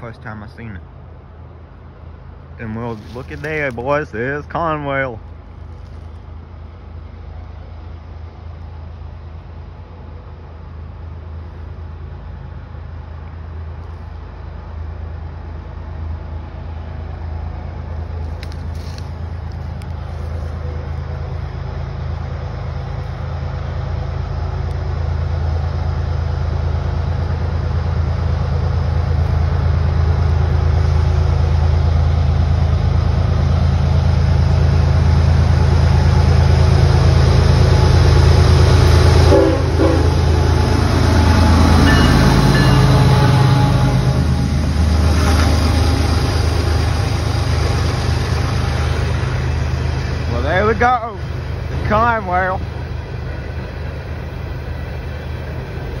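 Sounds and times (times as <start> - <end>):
hopper cars rolling on rails: 0.0 - 56.0
locomotive engine drone: 0.0 - 56.0.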